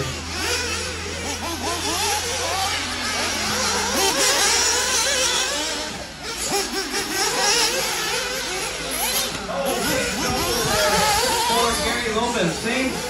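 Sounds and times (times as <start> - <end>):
small nitro engines revving: 0.0 - 13.0.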